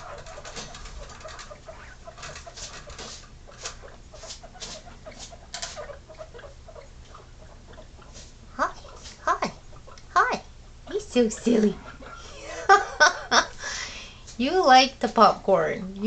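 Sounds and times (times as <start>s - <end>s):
guinea pigs chutting: 0.0s - 16.0s.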